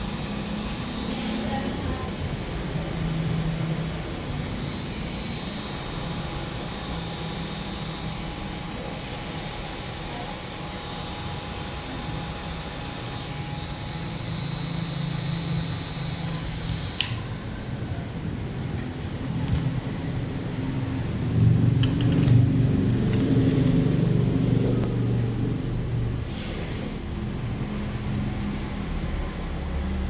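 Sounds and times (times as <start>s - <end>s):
hot-air blower whooshing: 0.0s - 29.7s.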